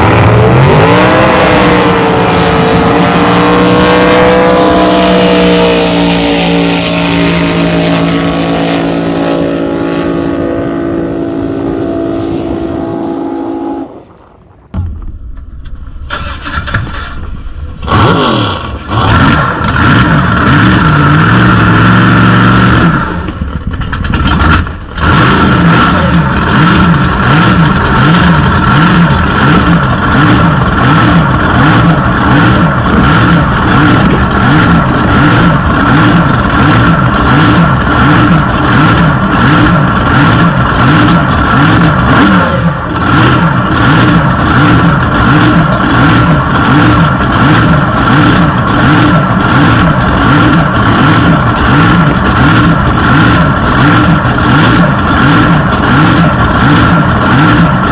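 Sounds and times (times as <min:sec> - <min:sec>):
supercharged engine whining: 0:00.0 - 0:57.9.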